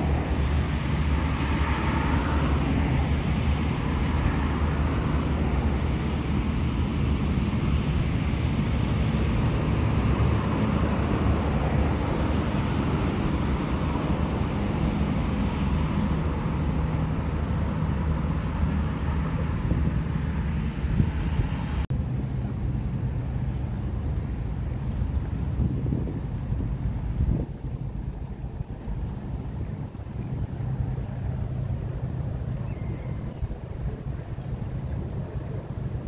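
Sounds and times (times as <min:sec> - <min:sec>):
distant engines droning: 0:00.0 - 0:36.0.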